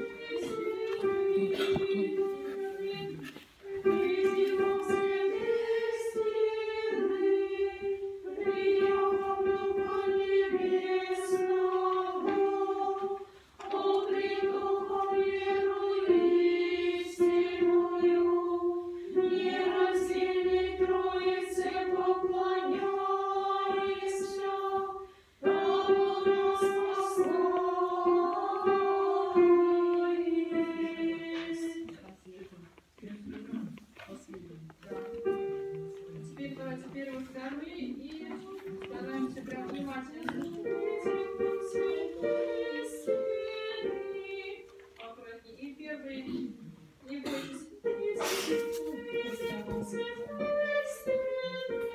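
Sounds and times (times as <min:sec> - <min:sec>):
choir singing a cappella chant: 0:00.0 - 0:31.9, 0:38.2 - 0:44.8, 0:47.3 - 0:51.9.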